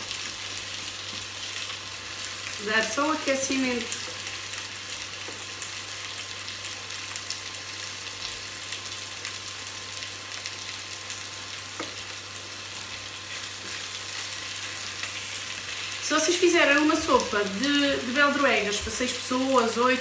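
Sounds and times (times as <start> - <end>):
potatoes sizzling in a pot: 0.0 - 20.0.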